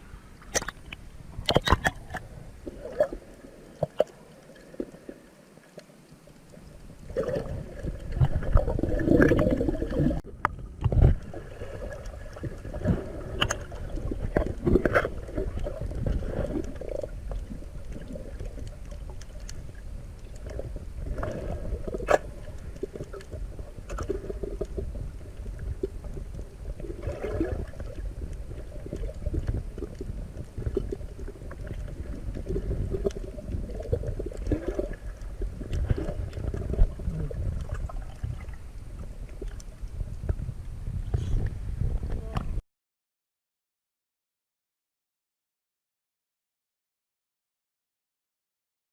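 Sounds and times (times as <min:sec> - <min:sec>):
muffled underwater rumble: 0:00.0 - 0:42.6.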